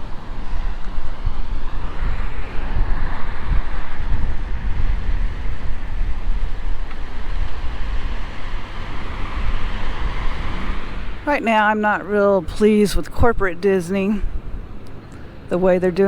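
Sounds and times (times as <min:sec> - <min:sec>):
traffic passing on a road: 0:00.0 - 0:16.0
wind buffeting the microphone: 0:00.0 - 0:16.0.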